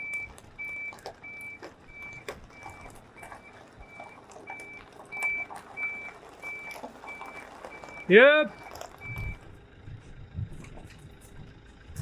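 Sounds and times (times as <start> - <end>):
vehicle reversing alarm beeping: 0.0 - 12.0.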